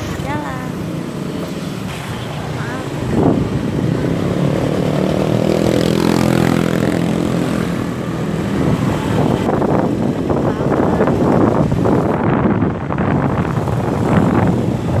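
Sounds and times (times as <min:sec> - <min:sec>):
road and wind rumble: 0:00.0 - 0:15.0.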